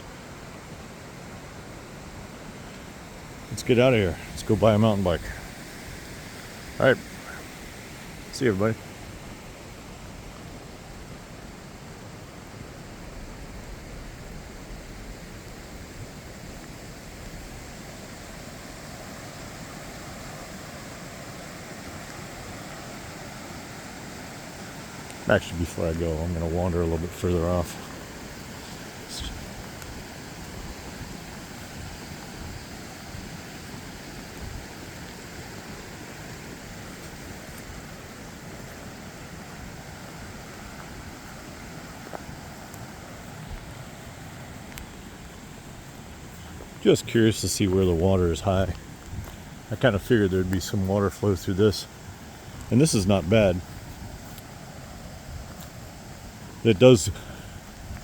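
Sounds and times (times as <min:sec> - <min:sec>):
rushing flood water: 0:00.0 - 0:58.0.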